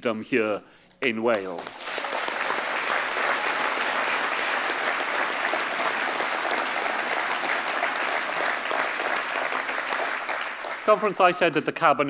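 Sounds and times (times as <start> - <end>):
audience applauding: 1.3 - 12.0.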